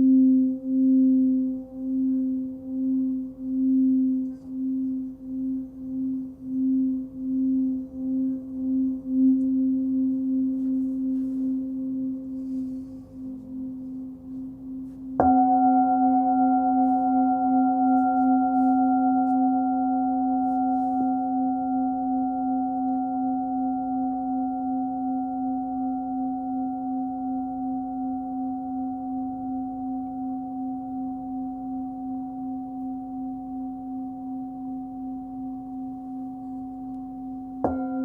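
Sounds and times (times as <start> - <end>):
singing bowl ringing: 0.0 - 38.0.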